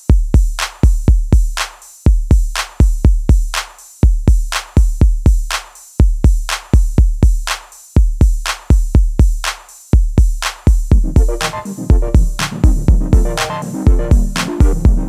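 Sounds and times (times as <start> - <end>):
drum machine beat: 0.0 - 15.0.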